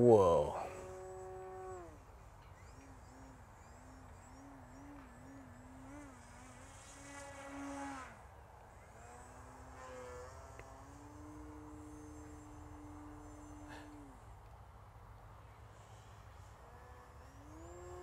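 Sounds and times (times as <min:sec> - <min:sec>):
model plane electric motor buzz: 0:00.0 - 0:14.5, 0:15.4 - 0:18.0.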